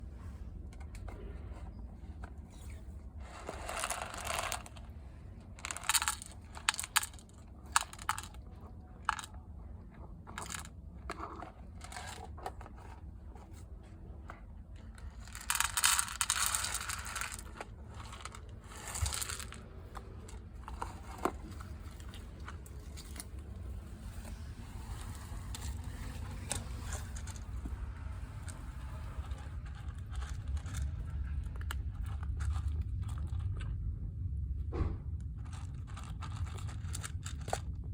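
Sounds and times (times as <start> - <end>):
cat crunching food: 3.3 - 13.0, 14.8 - 24.2, 24.8 - 34.0, 35.3 - 37.9.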